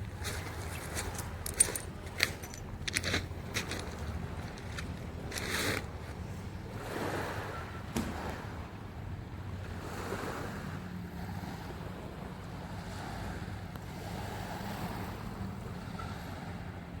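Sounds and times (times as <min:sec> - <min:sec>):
waves washing onto shore: 0:00.0 - 0:17.0
wind buffeting microphone: 0:00.0 - 0:17.0.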